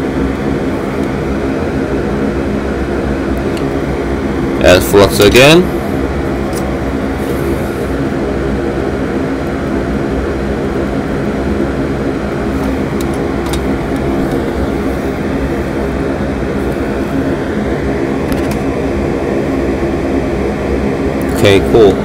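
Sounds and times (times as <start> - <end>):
extractor fan droning hum: 0.0 - 22.0.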